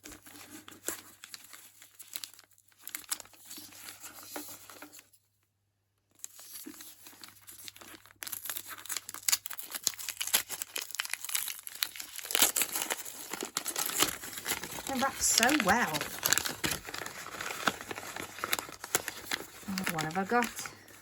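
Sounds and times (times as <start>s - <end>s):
paper wrapping tearing and crumpling: 0.0s - 5.0s, 6.2s - 21.0s.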